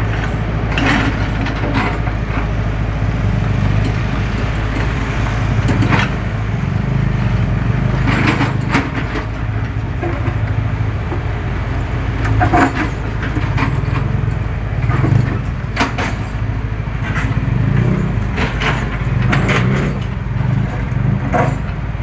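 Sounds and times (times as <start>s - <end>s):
excavator engine running: 0.0s - 22.0s
metallic clanks and rattles: 0.0s - 22.0s.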